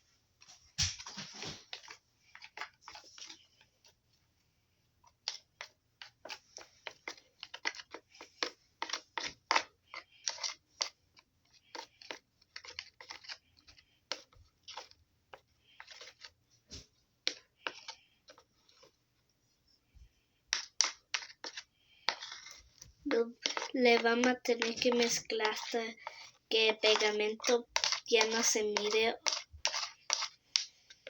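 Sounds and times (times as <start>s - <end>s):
spoon stirring paint in container: 0.9s - 31.0s.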